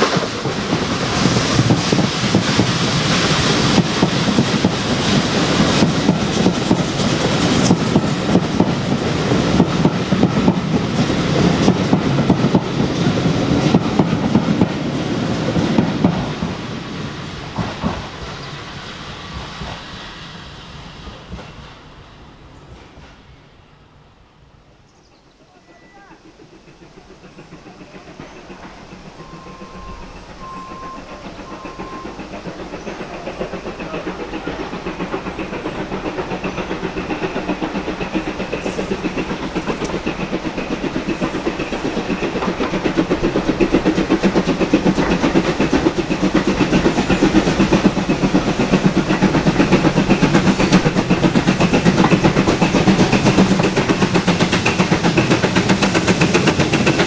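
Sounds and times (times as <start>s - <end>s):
wheels clattering on rails: 0.0s - 18.5s, 25.2s - 57.0s
steam train passing: 0.0s - 57.0s.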